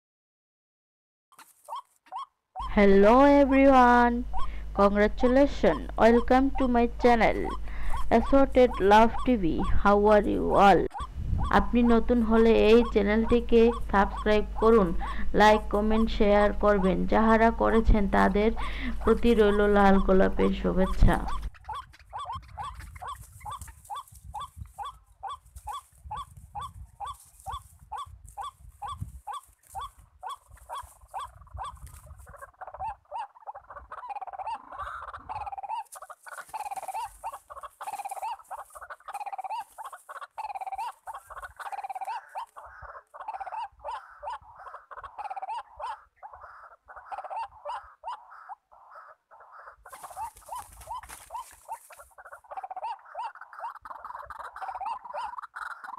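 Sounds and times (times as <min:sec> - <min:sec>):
bird calling repeated notes: 0:01.3 - 0:55.9.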